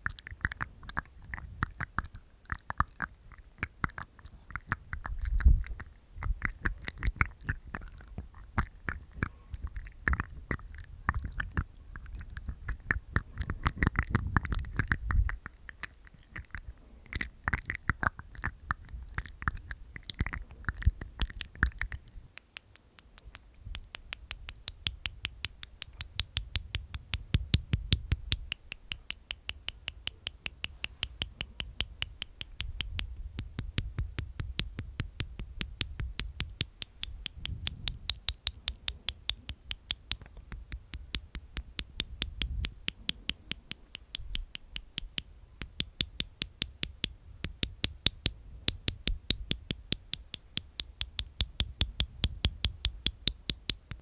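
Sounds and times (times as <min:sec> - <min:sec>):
wet mouth clicks: 0:00.0 - 0:54.0.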